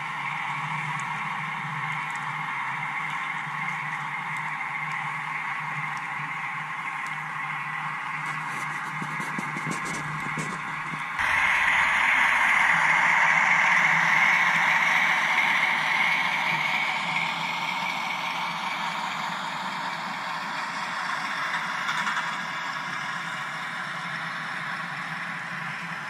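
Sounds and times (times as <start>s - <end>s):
diesel engine sound from small speaker: 0.0s - 26.0s
model trains whirring and clattering: 0.0s - 26.0s.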